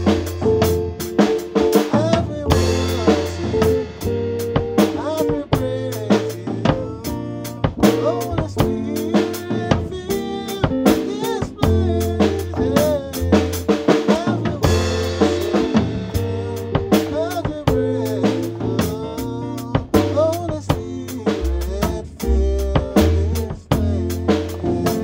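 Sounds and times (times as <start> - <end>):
drum kit beat: 0.0 - 25.0
keyboard: 0.0 - 25.0
man singing gospel: 0.0 - 25.0.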